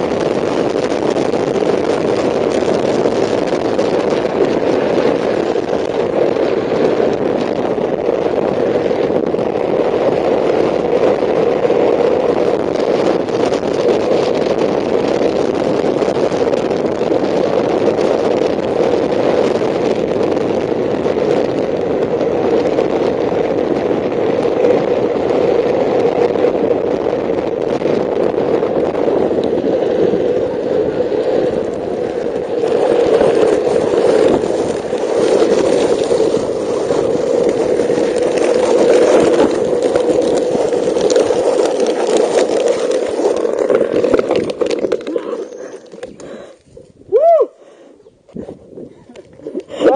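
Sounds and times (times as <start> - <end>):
rushing wind: 0.0 - 49.9
wheels rumbling on asphalt: 0.0 - 49.9.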